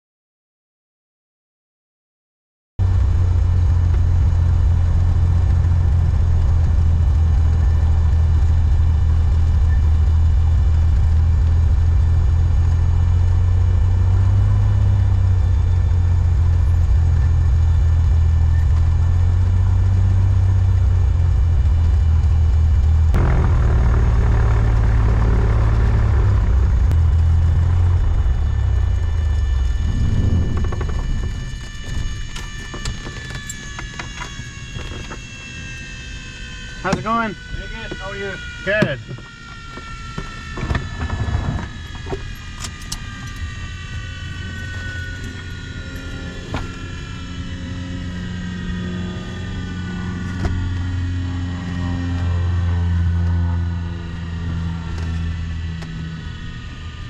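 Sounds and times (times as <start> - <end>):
aircraft engine and propeller drone: 2.8 - 57.0.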